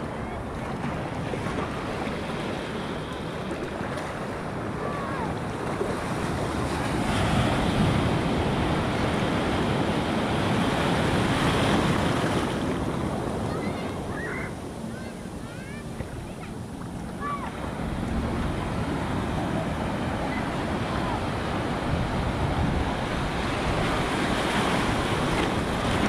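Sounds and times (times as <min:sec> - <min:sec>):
ocean surf washing in: 0:00.0 - 0:26.0
wind buffeting microphone: 0:00.0 - 0:26.0.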